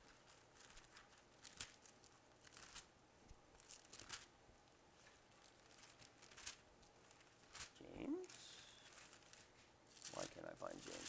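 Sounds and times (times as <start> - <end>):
pages turning: 0.0 - 4.3, 4.9 - 11.0.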